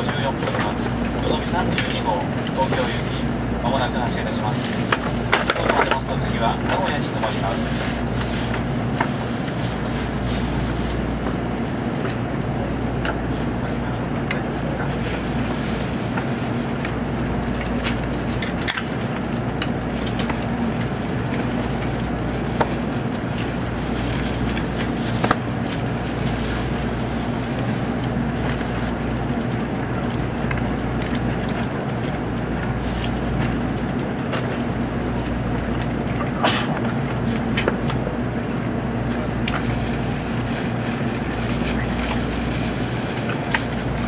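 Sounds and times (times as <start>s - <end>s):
steady train car hum: 0.0s - 44.0s.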